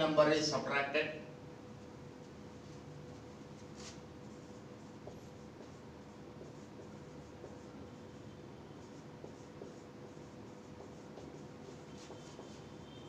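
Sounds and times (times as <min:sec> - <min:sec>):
faint steady hum: 0:00.0 - 0:13.0
marker writing on whiteboard: 0:02.2 - 0:13.0.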